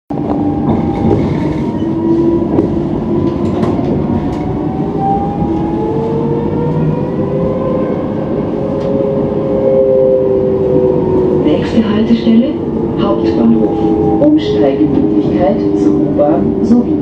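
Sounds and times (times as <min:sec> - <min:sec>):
tram rumbling on rails: 0:00.1 - 0:17.0.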